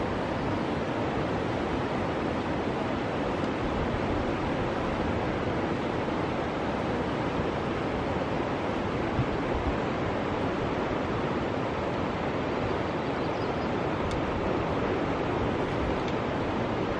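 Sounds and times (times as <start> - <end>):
rushing tidal rapids: 0.0 - 16.9.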